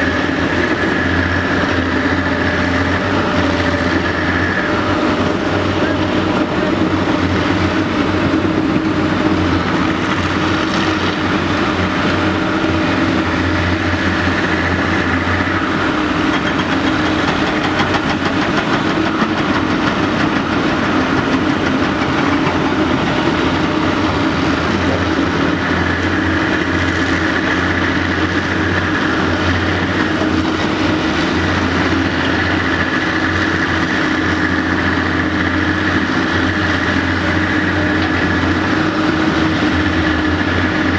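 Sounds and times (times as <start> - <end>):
excavator diesel engine running: 0.0 - 40.9
high engine whine: 0.0 - 40.9.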